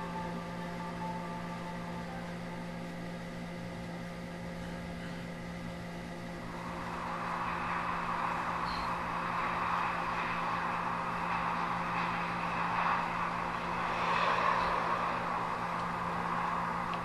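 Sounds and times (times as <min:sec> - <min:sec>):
low drone with held tones: 0:00.0 - 0:17.0
noisy rush: 0:00.0 - 0:17.0.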